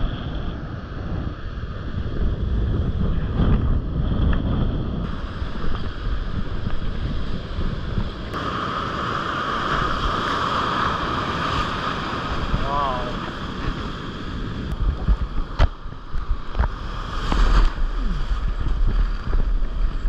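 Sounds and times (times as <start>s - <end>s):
wind buffeting microphone: 0.0s - 20.0s
surf breaking: 2.9s - 20.0s.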